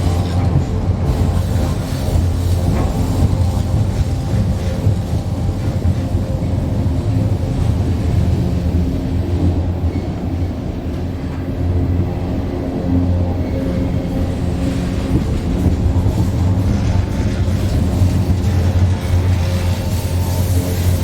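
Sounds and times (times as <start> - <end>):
steel bridge droning: 0.0 - 21.0
train rumbling: 0.0 - 21.0.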